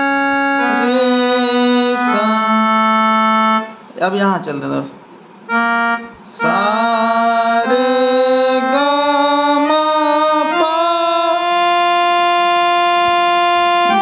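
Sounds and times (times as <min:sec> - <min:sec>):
man singing notes: 0:00.0 - 0:03.8, 0:05.5 - 0:14.0
keyboard playing organ-like notes: 0:00.0 - 0:04.0, 0:05.4 - 0:14.0.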